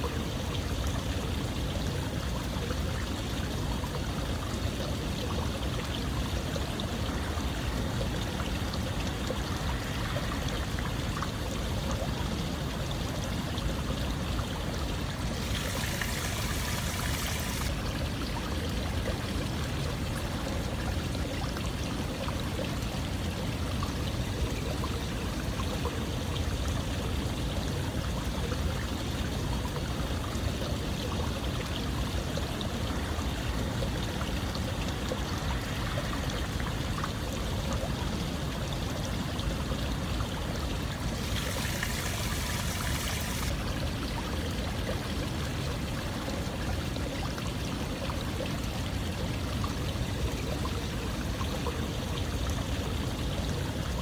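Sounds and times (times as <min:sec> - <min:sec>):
running water rushing and trickling: 0:00.0 - 0:54.0.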